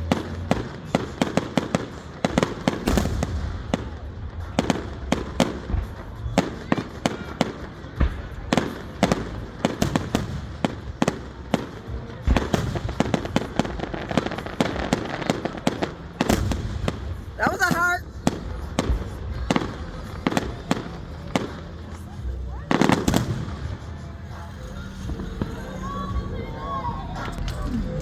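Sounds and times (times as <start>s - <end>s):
fireworks cracking and banging: 0.0s - 28.0s.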